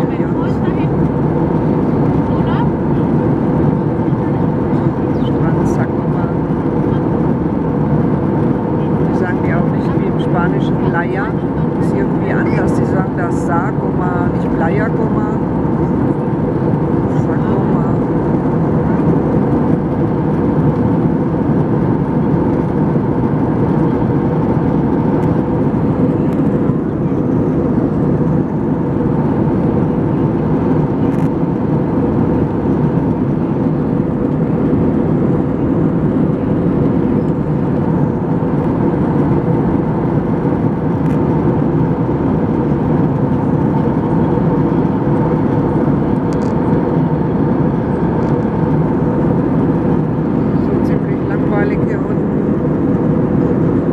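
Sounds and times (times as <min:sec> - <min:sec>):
jet engines and airflow rushing: 0:00.0 - 0:53.9.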